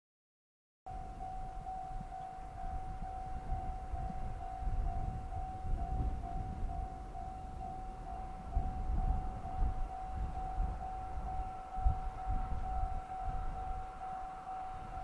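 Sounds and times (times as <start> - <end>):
level-crossing warning bell ringing: 0.9 - 15.0.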